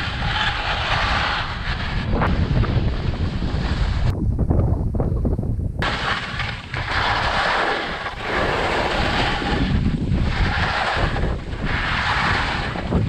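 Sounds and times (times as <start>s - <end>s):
skis scraping through snow: 0.0s - 4.2s, 5.8s - 13.0s
wind buffeting microphone: 0.0s - 13.0s.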